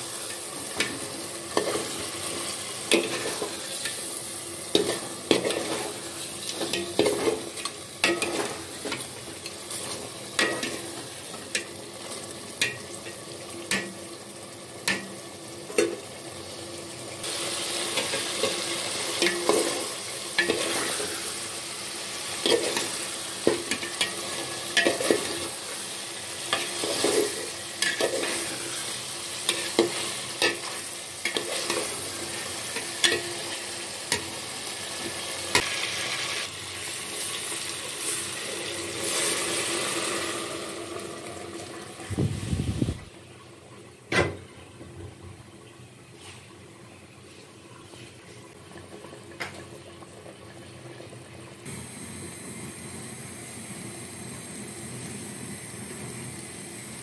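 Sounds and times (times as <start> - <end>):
curry sizzling in a metal pot: 0.0 - 44.8, 45.4 - 57.0.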